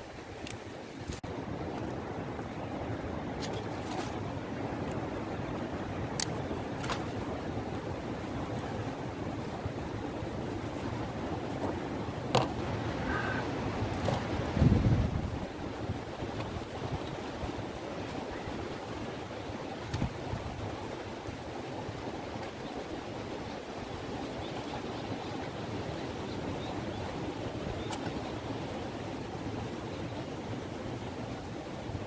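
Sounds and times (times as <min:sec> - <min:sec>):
strong wind through trees: 0:00.0 - 0:32.0
wind buffeting microphone: 0:00.0 - 0:32.0.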